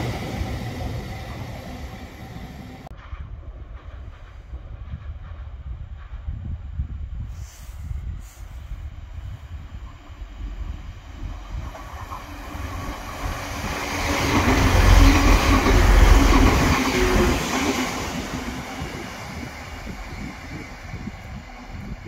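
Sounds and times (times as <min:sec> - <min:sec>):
train passing with wheel clatter: 0:00.0 - 0:22.0.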